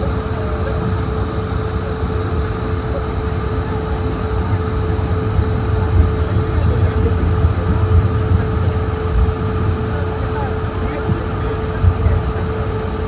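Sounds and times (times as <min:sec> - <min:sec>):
aircraft cabin rumble and hum: 0:00.0 - 0:13.0.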